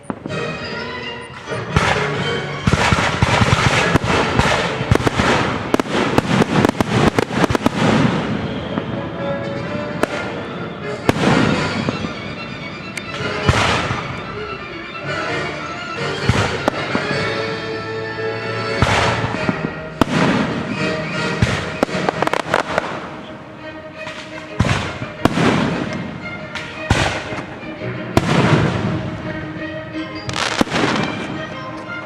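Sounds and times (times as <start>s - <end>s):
fireworks cracking and banging: 0.0s - 0.8s, 1.4s - 14.5s, 16.0s - 17.7s, 18.7s - 29.3s, 30.2s - 32.0s
orchestral music: 0.0s - 32.0s.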